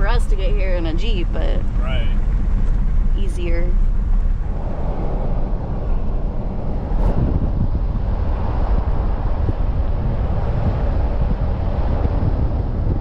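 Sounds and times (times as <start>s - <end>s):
road and engine rumble: 0.0s - 13.0s
wind buffeting microphone: 0.0s - 13.0s.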